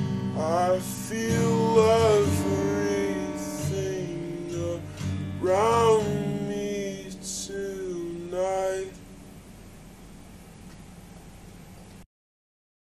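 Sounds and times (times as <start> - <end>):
slowed acoustic guitar song: 0.0 - 11.2
faint hiss: 0.0 - 12.1.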